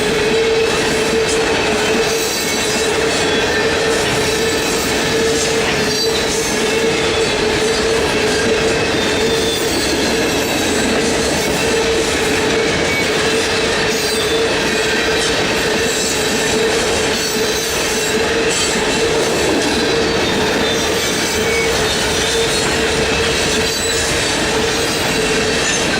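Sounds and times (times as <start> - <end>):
train cars rolling past: 0.0 - 25.9
wheels squealing: 0.0 - 25.9.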